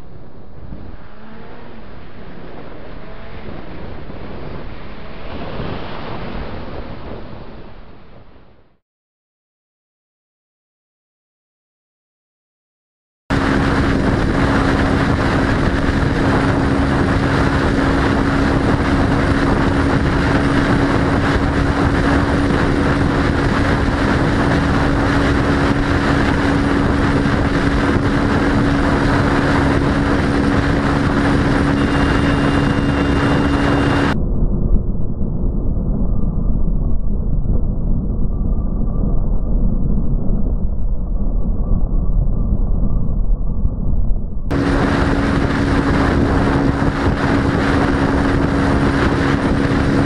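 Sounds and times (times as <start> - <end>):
motorcycle engine drone: 0.0 - 8.8, 13.3 - 50.0
wind and road noise: 0.0 - 8.8, 13.3 - 50.0.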